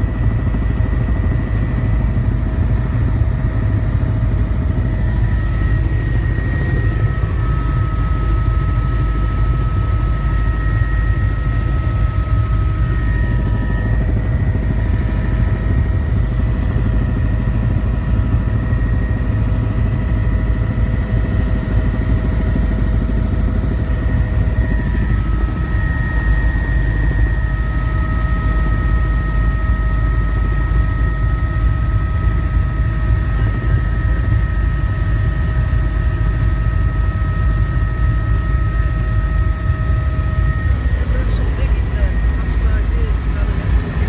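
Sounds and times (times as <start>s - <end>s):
helicopter rumble: 0.0s - 44.0s.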